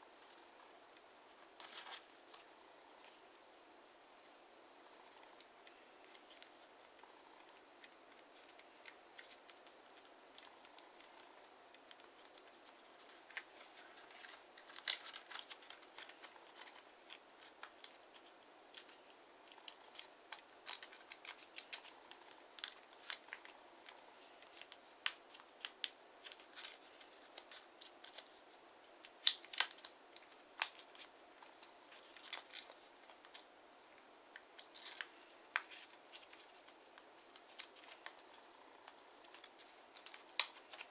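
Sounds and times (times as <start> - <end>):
paper crinkling: 1.3 - 3.2, 5.0 - 28.4, 29.0 - 40.9.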